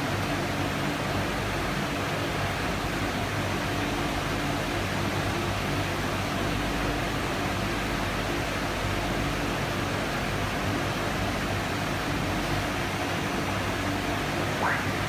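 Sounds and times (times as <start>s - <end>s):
machinery humming with rushing hiss: 0.0s - 15.0s.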